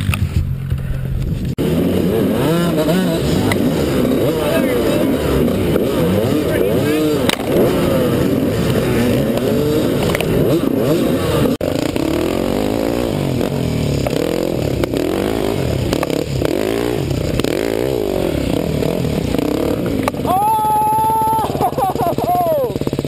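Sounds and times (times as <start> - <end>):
dirt bike engine revving: 1.4 - 23.0.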